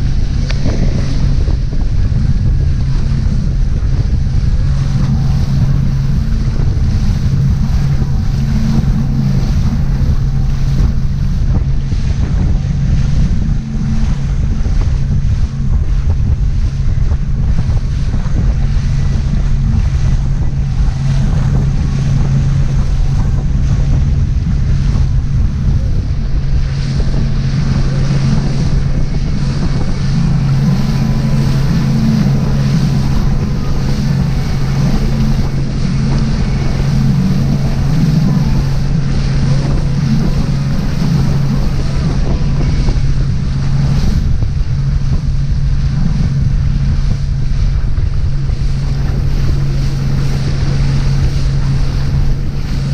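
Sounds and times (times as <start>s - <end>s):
motorboat engine hum: 0.0s - 52.9s
water rushing past: 0.0s - 52.9s
wind buffeting microphone: 0.0s - 52.9s.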